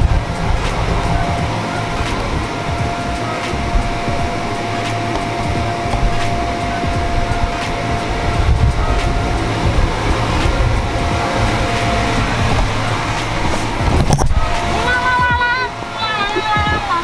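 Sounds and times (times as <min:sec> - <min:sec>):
inflation blower running: 0:00.0 - 0:17.0.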